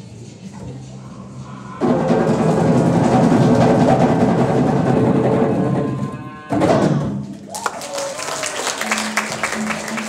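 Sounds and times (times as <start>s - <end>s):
drumming ensemble: 1.8s - 10.0s.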